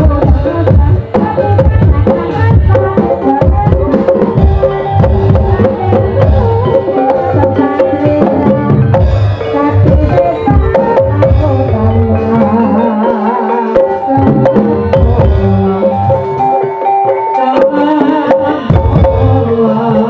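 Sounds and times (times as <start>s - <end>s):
hand drums beating: 0.0s - 20.0s
pitched gamelan melody: 0.0s - 20.0s.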